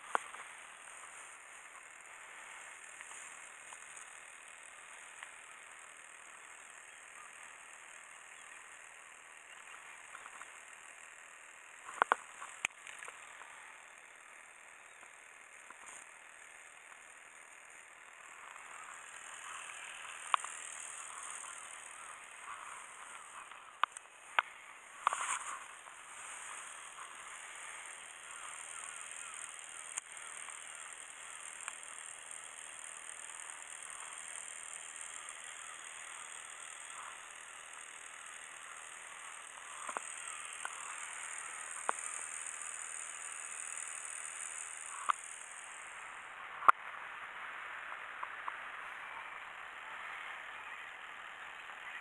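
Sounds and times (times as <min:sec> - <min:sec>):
sharp clicks: 0:00.0 - 0:45.7
faint outdoor hiss: 0:00.0 - 0:52.0.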